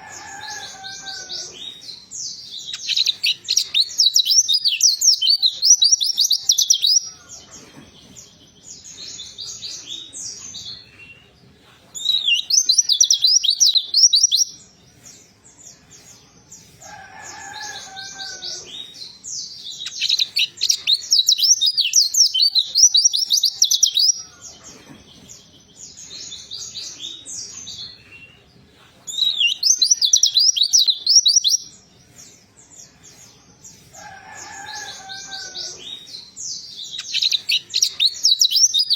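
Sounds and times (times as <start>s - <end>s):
bird warbling song: 0.0s - 11.2s, 12.0s - 14.6s, 17.4s - 28.4s, 29.1s - 31.8s, 34.0s - 38.9s.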